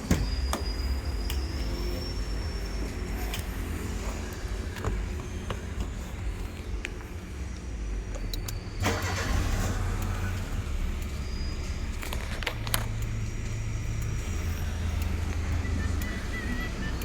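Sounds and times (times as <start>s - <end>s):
car engine cranking and running: 0.0s - 17.0s
sharp clicks: 0.0s - 17.0s.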